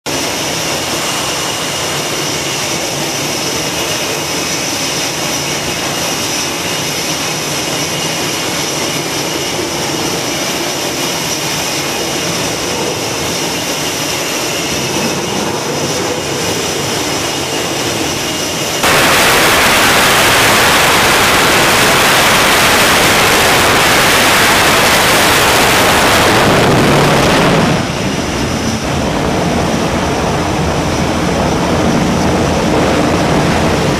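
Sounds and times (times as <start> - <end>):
jet engine full-power rush: 0.0 - 33.9
jet engines high-pitched whine: 0.0 - 33.9.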